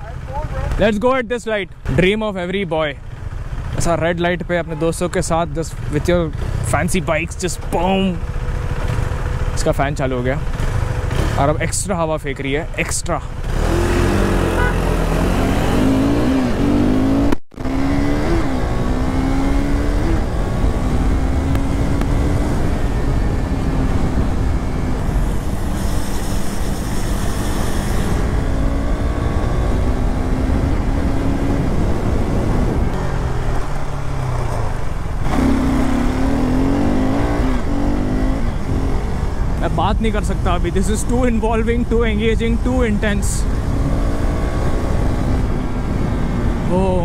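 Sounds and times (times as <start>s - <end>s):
motorcycle engine accelerating: 1.9s - 47.0s.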